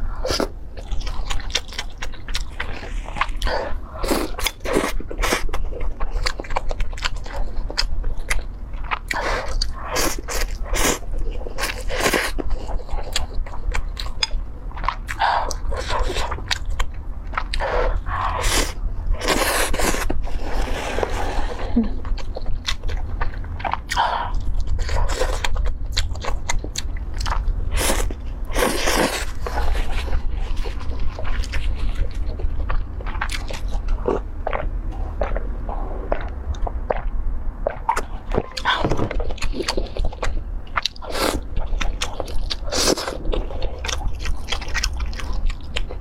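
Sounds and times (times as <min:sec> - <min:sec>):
low hum: 0:00.0 - 0:46.0
person chewing crunchy food: 0:00.0 - 0:46.0.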